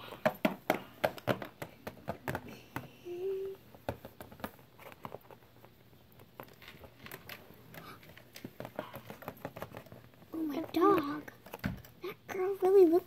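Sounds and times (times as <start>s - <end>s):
plastic figurines clicking and tapping: 0.0s - 13.0s.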